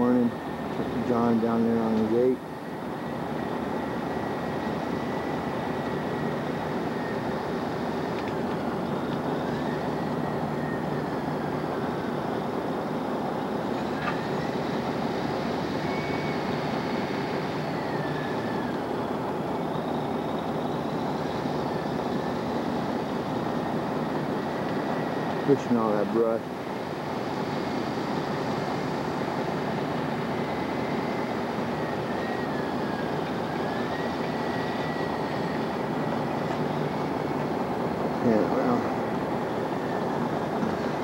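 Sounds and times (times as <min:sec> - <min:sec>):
diesel engine under load: 0:00.0 - 0:41.0
faint high whine: 0:00.0 - 0:41.0.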